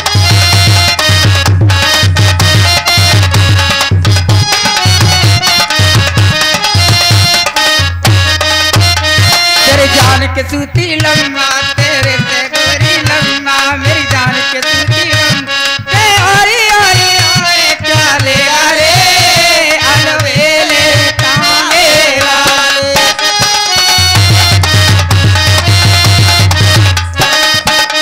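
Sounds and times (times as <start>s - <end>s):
dholak drum beat: 0.0s - 28.0s
harmonium melody: 0.0s - 28.0s.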